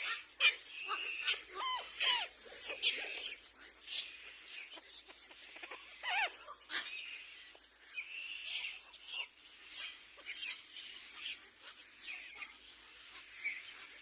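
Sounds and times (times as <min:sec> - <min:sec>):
nestling birds squealing: 0:00.0 - 0:14.0.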